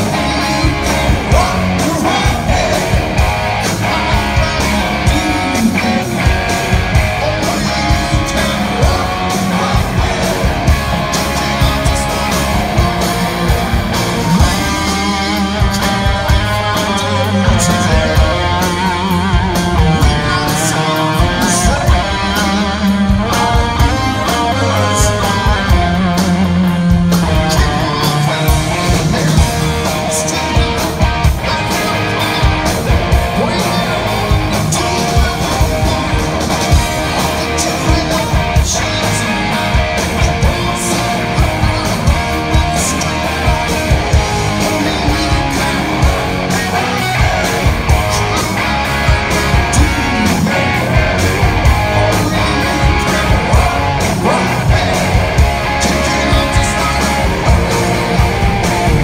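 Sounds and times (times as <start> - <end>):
bass guitar: 0.0 - 59.0
electric guitar: 0.0 - 59.0
steady drum beat: 0.0 - 59.0.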